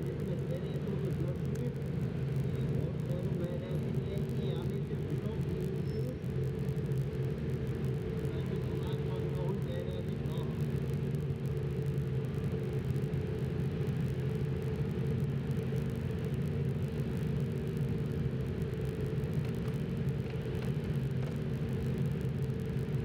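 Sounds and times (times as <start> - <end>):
motorcycle engines running at low revs: 0.0 - 23.0.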